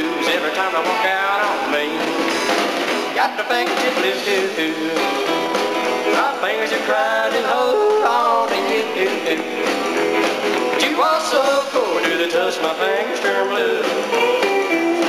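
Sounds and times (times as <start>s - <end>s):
electric guitar: 0.0s - 15.0s
live blues band playing: 0.0s - 15.0s.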